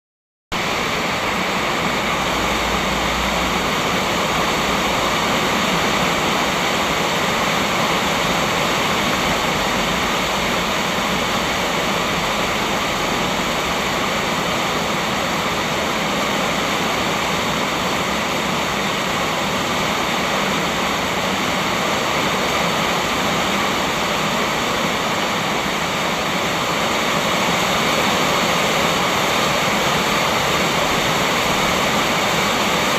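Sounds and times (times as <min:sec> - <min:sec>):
rain falling steadily: 0:00.5 - 0:32.9.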